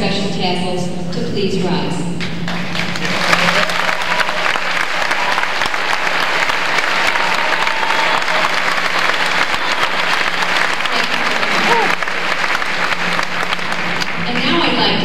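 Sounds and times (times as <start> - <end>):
audience applauding: 2.3 - 15.0.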